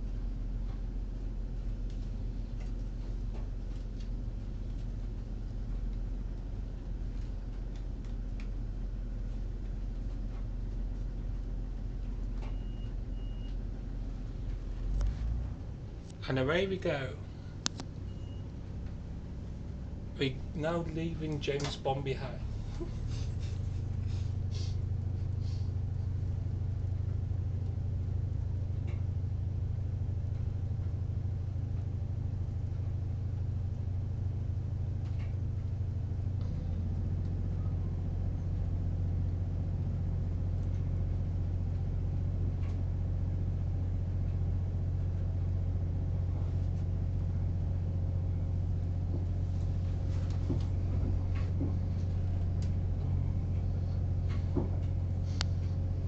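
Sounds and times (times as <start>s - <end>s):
train engine hum and rumble: 0.0s - 56.0s.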